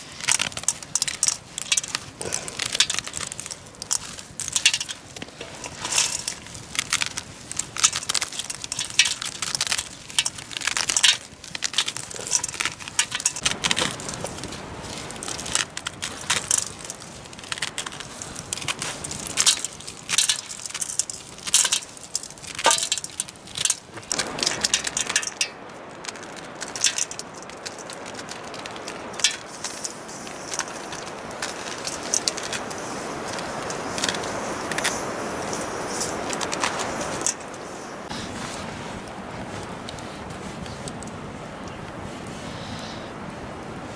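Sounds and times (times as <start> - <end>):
maize kernels crackling into plate: 0.0 - 38.1
steady rushing noise: 0.0 - 43.9.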